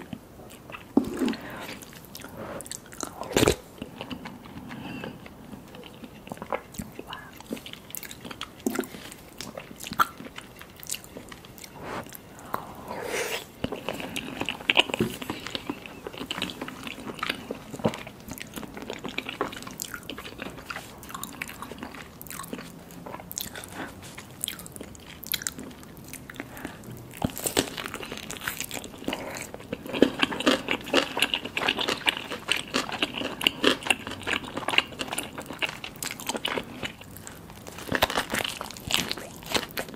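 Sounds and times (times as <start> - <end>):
crunchy biting and chewing: 0.0 - 4.9, 5.7 - 39.9.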